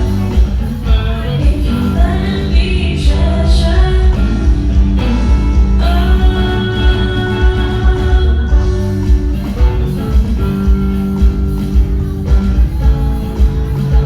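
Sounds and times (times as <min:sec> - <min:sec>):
guitar: 0:00.0 - 0:14.0
live band music: 0:00.0 - 0:14.0
person singing: 0:00.0 - 0:14.0
pounding bass beat: 0:00.0 - 0:14.0.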